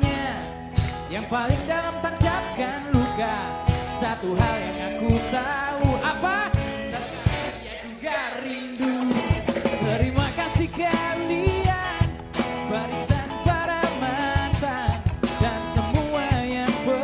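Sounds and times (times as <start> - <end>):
pop-rock band playing: 0.0 - 17.0.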